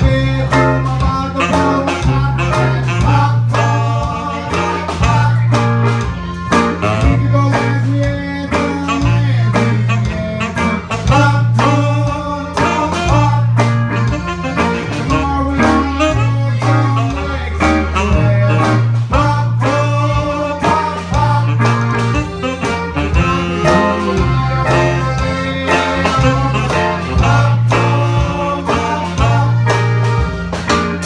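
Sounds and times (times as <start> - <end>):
accordion: 0.0 - 31.0
bass line: 0.0 - 31.0
electric guitar: 0.0 - 31.0
steady drum beat: 0.0 - 31.0.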